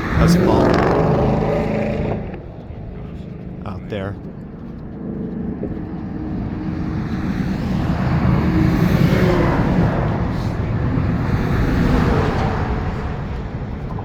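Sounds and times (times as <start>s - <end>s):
vehicle passing on bridge: 0.0s - 3.7s, 4.3s - 14.0s.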